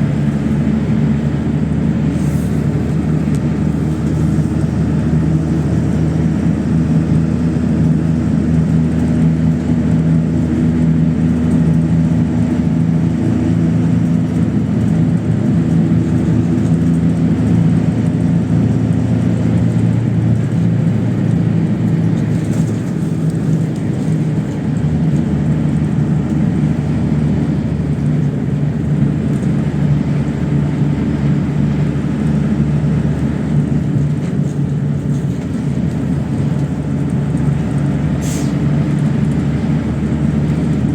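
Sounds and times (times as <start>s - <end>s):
bus engine: 0.0s - 40.9s
road noise: 0.0s - 40.9s.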